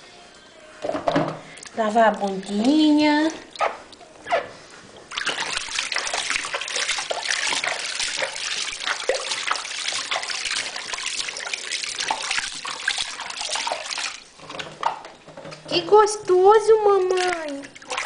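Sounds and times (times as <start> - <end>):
bathwater splashing and trickling: 1.4 - 18.0.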